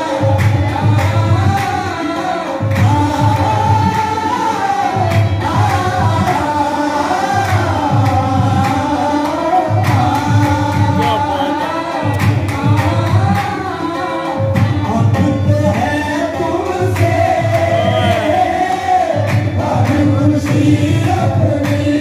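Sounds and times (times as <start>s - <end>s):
harmonium: 0.0s - 22.0s
men singing: 0.0s - 22.0s
hand claps: 0.1s - 14.8s, 16.7s - 22.0s.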